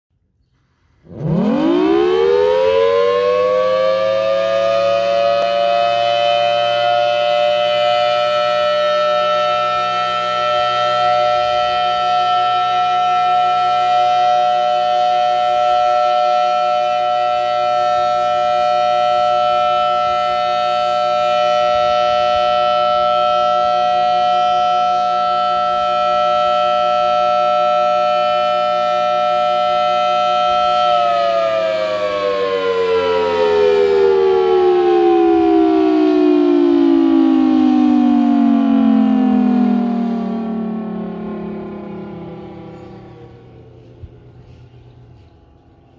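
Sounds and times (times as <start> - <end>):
warning siren steady tone: 0.9 - 45.9.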